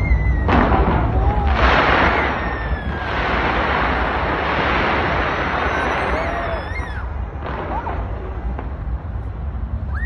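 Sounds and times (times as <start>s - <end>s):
fireworks booming and crackling: 0.0s - 9.9s
low rumble: 0.0s - 10.0s.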